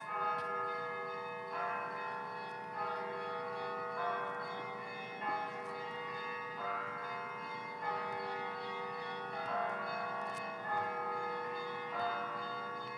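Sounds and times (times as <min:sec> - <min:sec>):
church bells ringing: 0:00.0 - 0:12.9.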